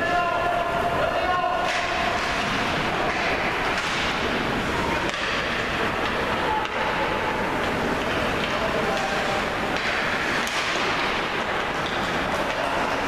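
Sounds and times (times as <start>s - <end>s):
ice rink din: 0.0s - 13.0s.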